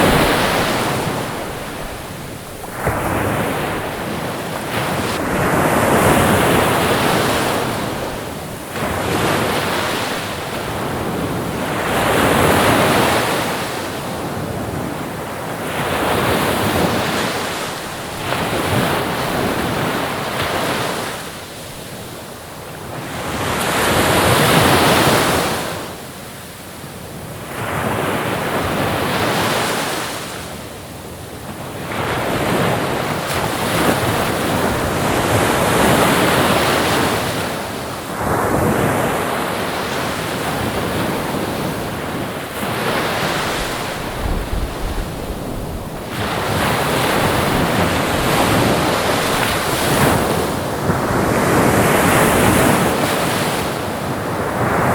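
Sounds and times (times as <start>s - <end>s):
ocean waves breaking on shore: 0.0s - 54.9s.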